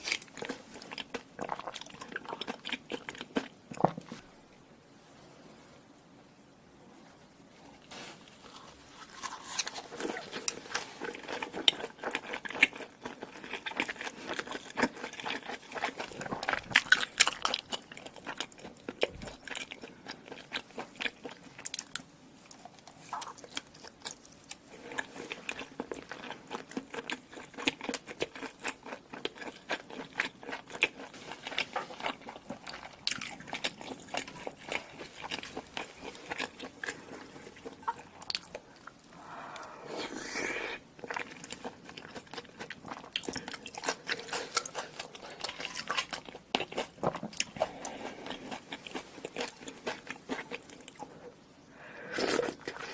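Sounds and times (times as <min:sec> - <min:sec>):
person chewing crunchy food: 0:00.0 - 0:04.2, 0:08.4 - 0:51.3, 0:52.0 - 0:52.9.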